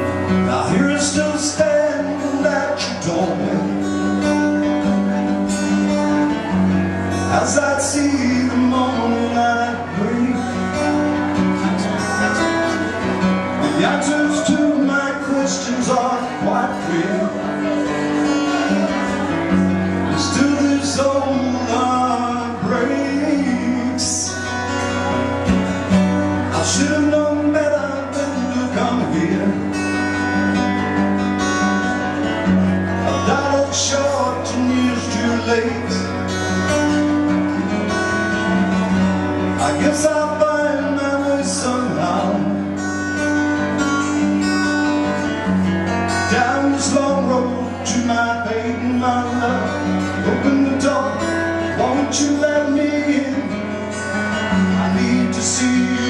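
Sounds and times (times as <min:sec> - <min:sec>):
acoustic guitar strummed and picked: 0:00.0 - 0:56.0
man singing: 0:00.0 - 0:56.0.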